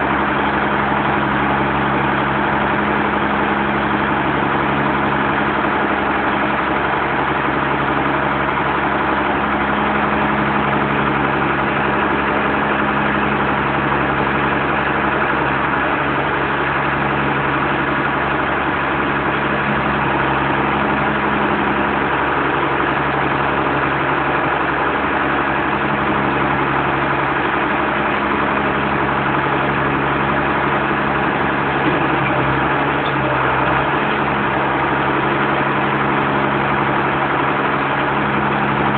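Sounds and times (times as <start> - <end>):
harvester engine droning: 0.0 - 38.9.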